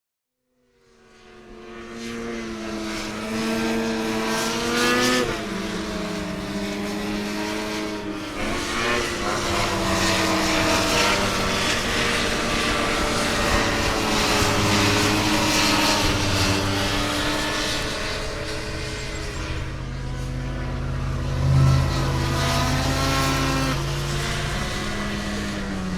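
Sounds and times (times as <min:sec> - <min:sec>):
snowmobile engine revving: 0:02.3 - 0:25.9.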